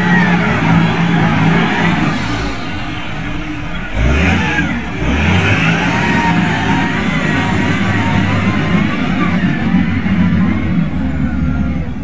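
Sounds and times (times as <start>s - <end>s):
wheel loader diesel engine revving: 0.0s - 11.7s.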